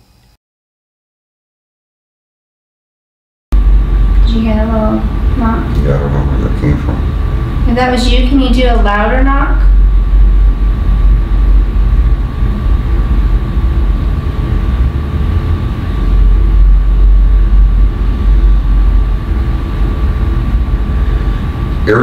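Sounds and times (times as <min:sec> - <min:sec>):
steady low rumble: 0:03.5 - 0:22.0
thin constant hum: 0:03.6 - 0:22.0.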